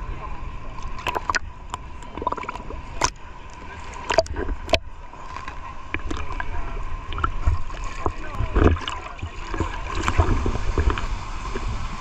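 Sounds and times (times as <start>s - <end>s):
low muffled rumble: 0.0s - 12.0s
water sloshing and gurgling: 0.0s - 12.0s
water clicks and splashes: 0.8s - 12.0s.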